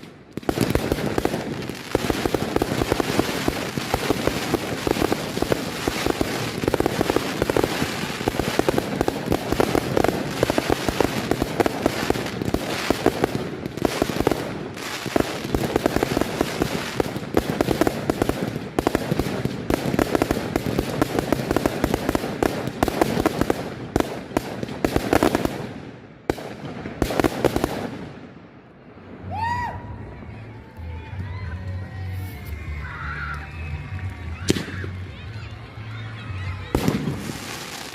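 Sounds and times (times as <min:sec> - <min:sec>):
fireworks crackling and banging: 0:00.0 - 0:37.9.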